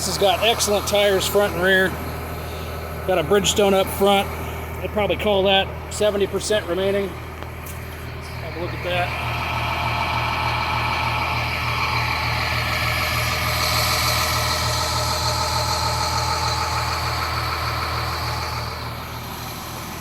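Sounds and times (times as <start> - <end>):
diesel bus engine idling: 0.0 - 20.0.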